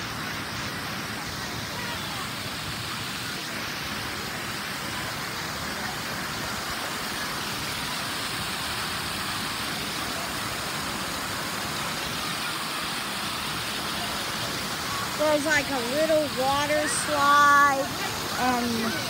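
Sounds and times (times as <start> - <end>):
fountain jets spraying water: 0.0 - 19.0.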